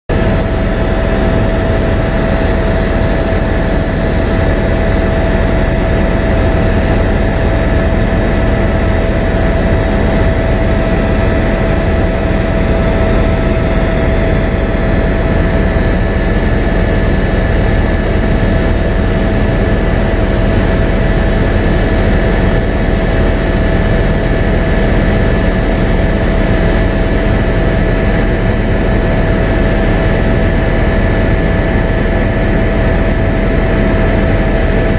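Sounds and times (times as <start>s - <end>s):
constant high whine: 0.1s - 34.9s
deep engine drone: 0.1s - 34.9s.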